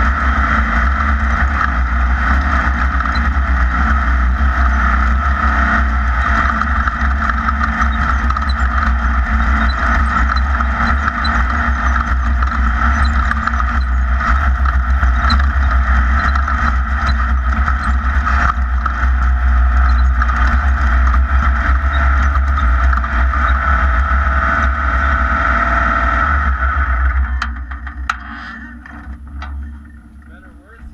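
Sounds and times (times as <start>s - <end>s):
race car engine rumbling: 0.0s - 30.9s.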